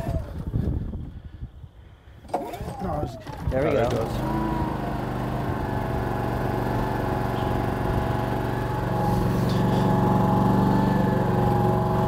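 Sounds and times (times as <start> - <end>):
generator engine running: 2.3 - 12.0.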